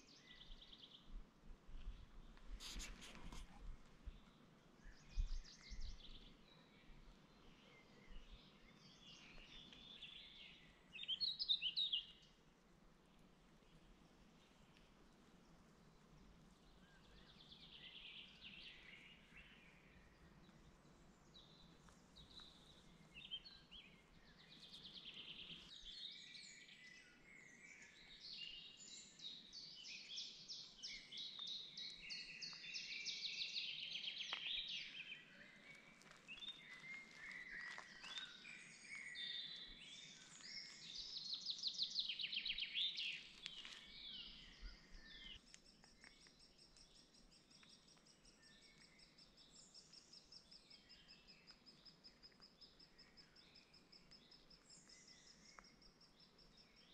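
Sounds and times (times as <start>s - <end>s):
songbirds singing: 0.0s - 56.9s.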